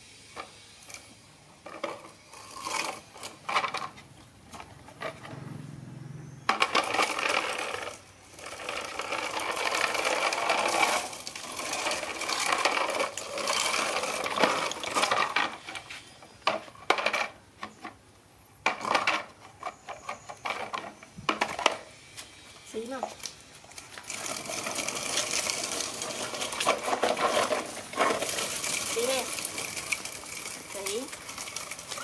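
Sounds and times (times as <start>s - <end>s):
plastic toy wheels rattling on concrete: 0.4s - 5.6s, 6.2s - 18.0s, 18.6s - 22.0s, 22.6s - 32.0s.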